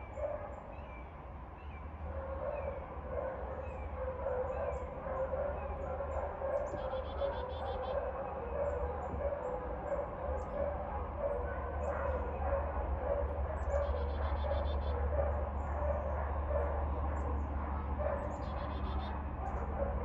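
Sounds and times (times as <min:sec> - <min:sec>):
dog barking: 0:00.2 - 0:00.6, 0:02.2 - 0:20.0.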